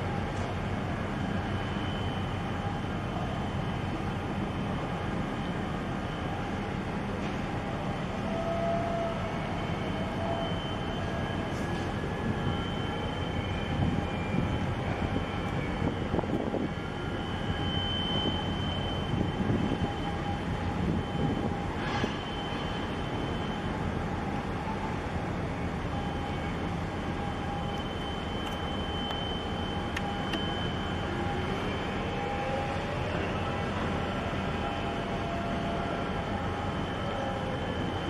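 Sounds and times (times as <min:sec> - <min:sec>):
faint high whine: 0:00.0 - 0:38.0
ship machinery rumble and drone: 0:00.0 - 0:38.0.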